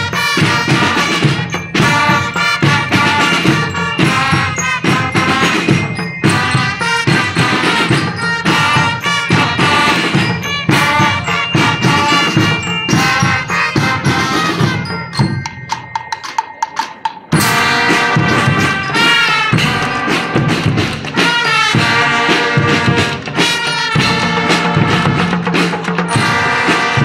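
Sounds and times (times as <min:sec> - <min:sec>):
drums keeping time: 0:00.0 - 0:27.0
marching band playing: 0:00.0 - 0:27.0.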